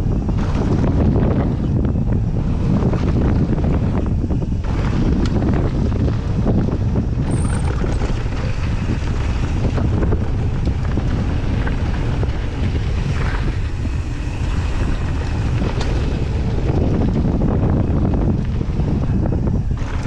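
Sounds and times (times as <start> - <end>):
bike clicks and rattles: 0.0 - 20.0
wind rushing over microphone: 0.0 - 20.0.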